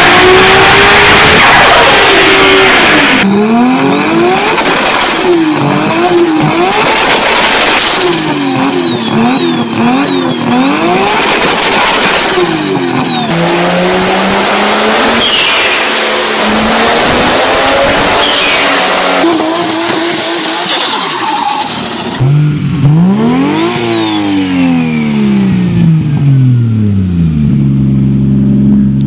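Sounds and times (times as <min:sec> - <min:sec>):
car engine accelerating: 0:00.0 - 0:29.0
car engines revving: 0:00.0 - 0:29.0.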